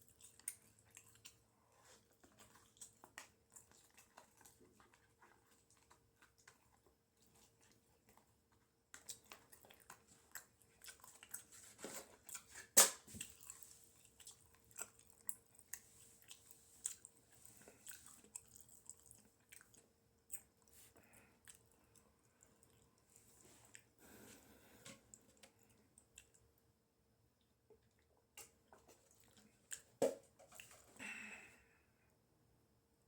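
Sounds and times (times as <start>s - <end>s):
person chewing food: 0.0s - 26.7s, 27.4s - 31.0s.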